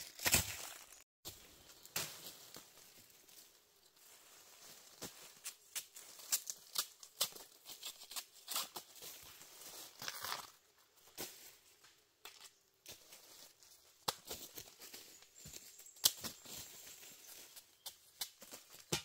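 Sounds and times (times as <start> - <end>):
dry leaves rustling: 0.0 - 10.6, 12.9 - 18.9.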